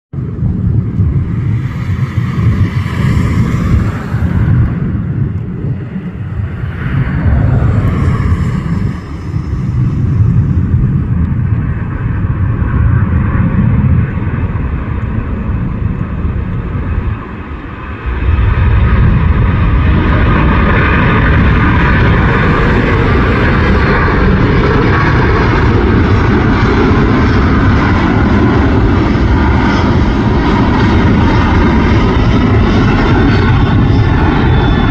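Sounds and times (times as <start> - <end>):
jet engines rumbling: 0.2 - 34.9.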